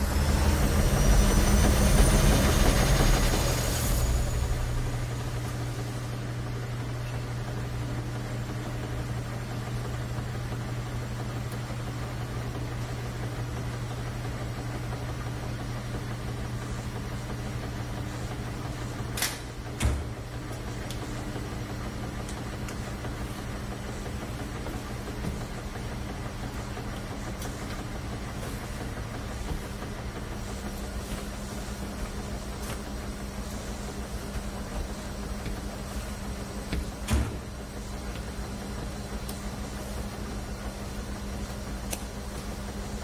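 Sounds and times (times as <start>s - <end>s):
low engine-like hum: 0.0s - 43.0s.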